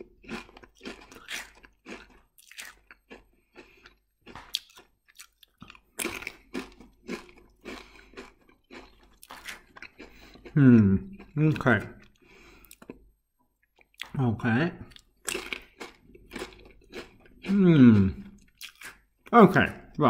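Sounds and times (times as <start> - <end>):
person chewing crisps: 0.0 - 19.4.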